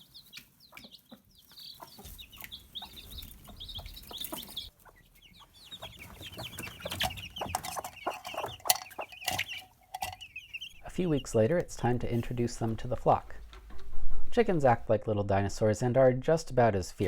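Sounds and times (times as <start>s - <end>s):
chicks peeping: 0.0s - 14.8s.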